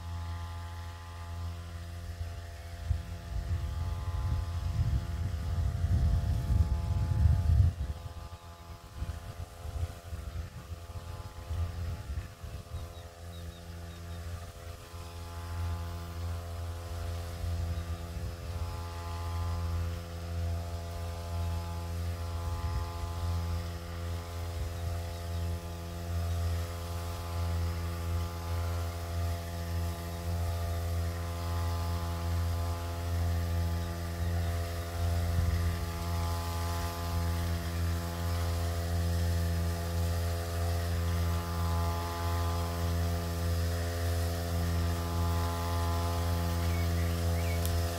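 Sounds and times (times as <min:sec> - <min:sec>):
crop sprayer small engine running: 0:00.0 - 0:47.9.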